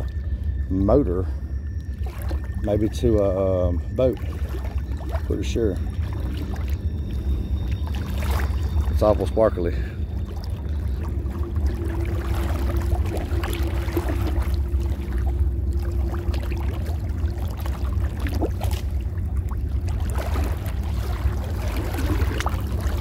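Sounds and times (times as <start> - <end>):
creek water sloshing and trickling: 0.0 - 23.0
low rumble: 0.0 - 23.0
steady hum: 0.0 - 23.0.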